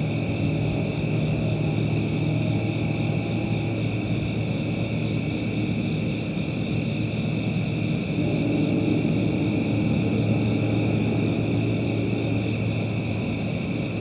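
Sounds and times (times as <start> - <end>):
low steady drone: 0.0 - 14.0.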